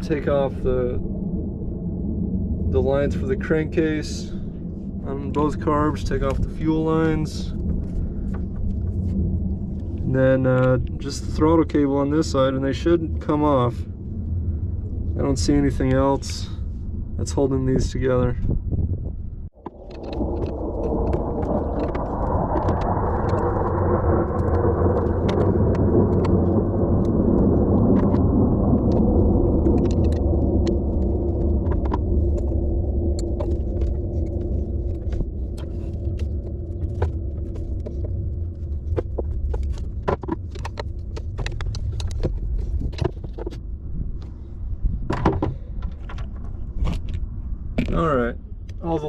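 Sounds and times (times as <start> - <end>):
low rumble: 0.0 - 49.0.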